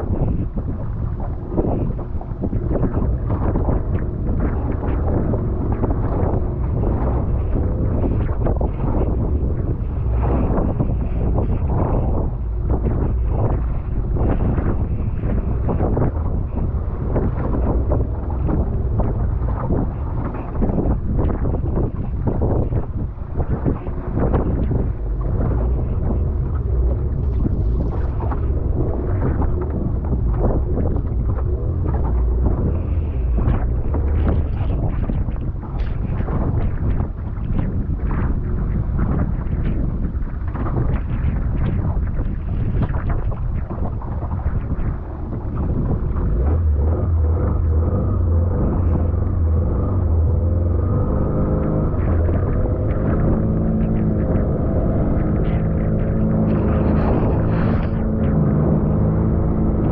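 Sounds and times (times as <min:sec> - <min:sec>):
water splashing against boat hull: 0:00.0 - 0:59.9
wind buffeting microphone: 0:00.0 - 0:59.9.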